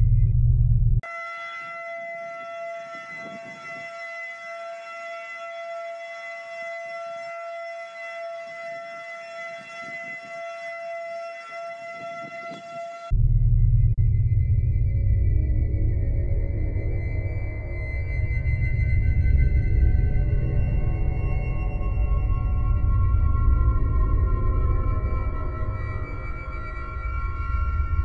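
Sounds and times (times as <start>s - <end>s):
warning siren steady tone: 0.0s - 28.0s.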